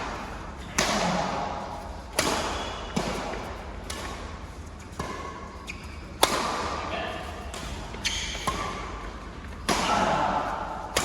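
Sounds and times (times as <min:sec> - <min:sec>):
rackets hitting shuttlecock: 0:00.0 - 0:11.0.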